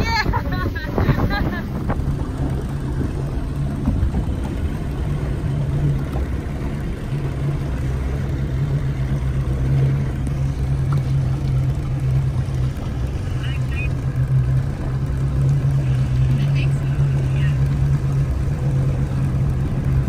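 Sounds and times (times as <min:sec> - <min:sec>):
speedboat engine humming: 0:00.0 - 0:20.0.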